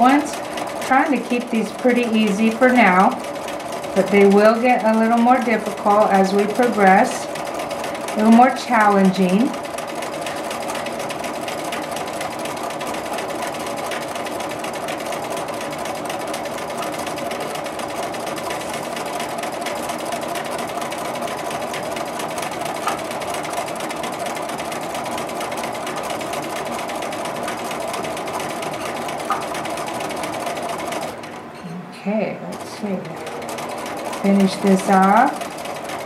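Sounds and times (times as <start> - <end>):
sewing machine running: 0.0 - 31.6, 32.4 - 36.0.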